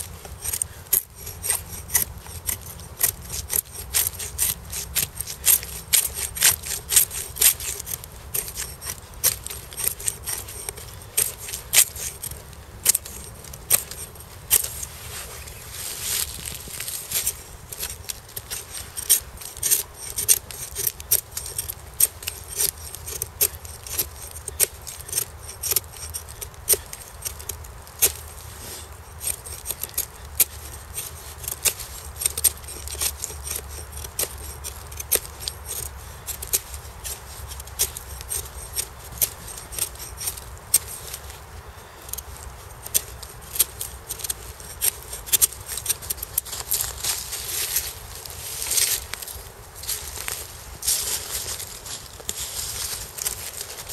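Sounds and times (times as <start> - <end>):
knife scraping wood: 0.0 - 53.9.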